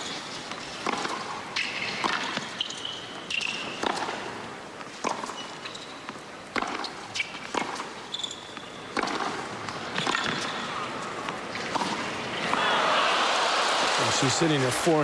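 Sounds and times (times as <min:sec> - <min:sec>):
racket striking tennis ball: 0:00.0 - 0:12.7
sneaker squeaks: 0:00.0 - 0:12.7.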